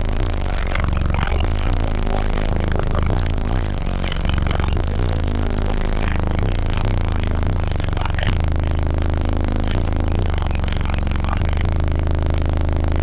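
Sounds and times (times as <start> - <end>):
rap beat through car subwoofers: 0.0 - 13.0.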